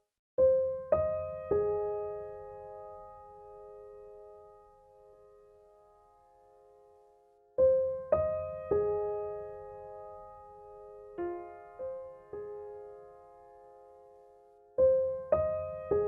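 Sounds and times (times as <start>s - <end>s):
slow quiet piano music: 0.4s - 16.0s.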